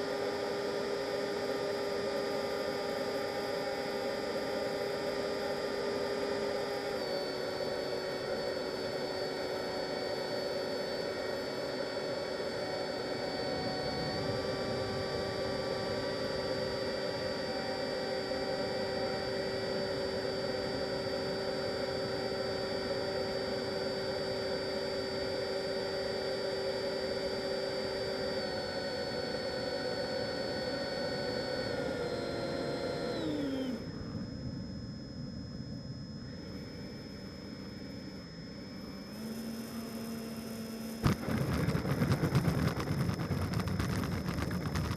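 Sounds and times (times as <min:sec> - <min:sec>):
electric fan motors whining: 0:00.0 - 0:44.9.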